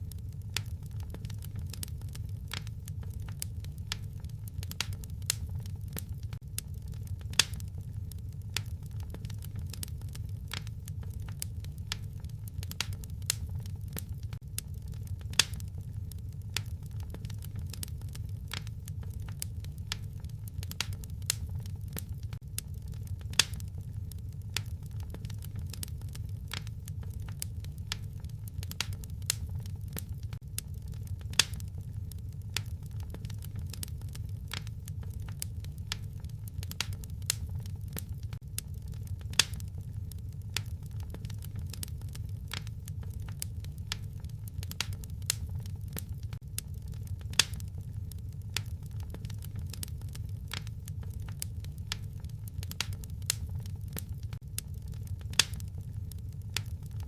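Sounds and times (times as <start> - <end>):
fire snaps and pops: 0.0 - 57.0
low rumble of burning fire: 0.0 - 57.0.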